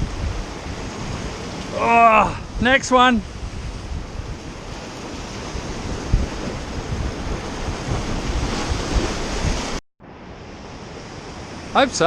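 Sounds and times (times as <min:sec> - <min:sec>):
ocean waves surging: 0:00.0 - 0:12.0
wind buffeting microphone: 0:00.0 - 0:12.0.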